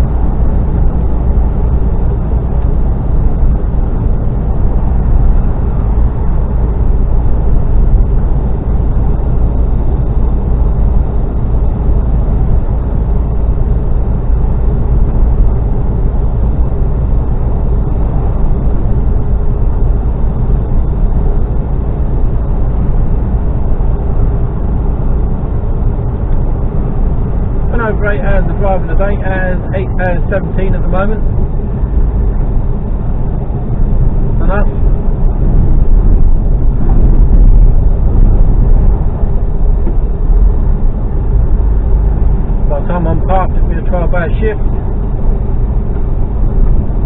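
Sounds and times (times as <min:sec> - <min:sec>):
lorry engine drone from cab: 0:00.0 - 0:47.0.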